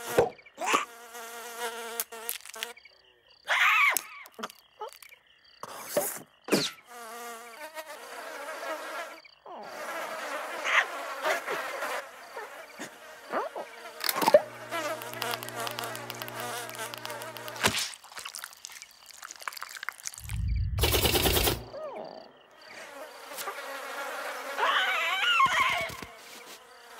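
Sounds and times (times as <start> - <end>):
cartoon insects buzzing: 0.0 - 2.9, 6.2 - 26.9.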